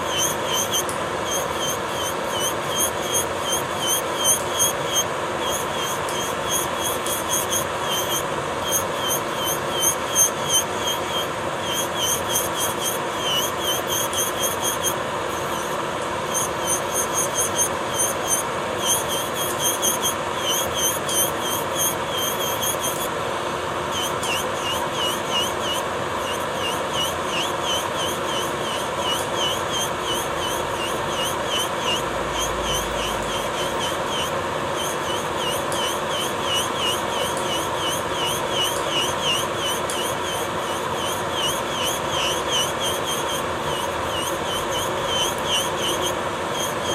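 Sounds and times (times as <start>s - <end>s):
electric nail drill grinding: 0.0s - 46.9s.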